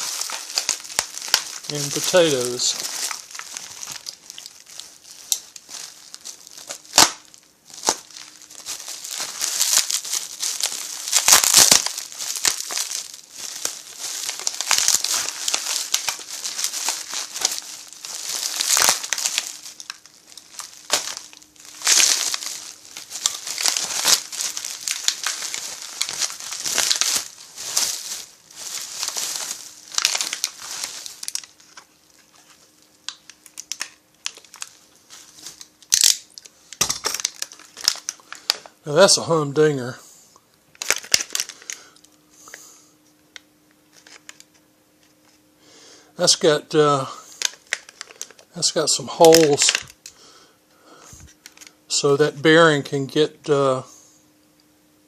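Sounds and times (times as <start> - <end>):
plastic bags crinkling: 0.0 - 39.9, 40.7 - 42.8, 43.8 - 45.4, 46.2 - 50.1, 51.0 - 52.4.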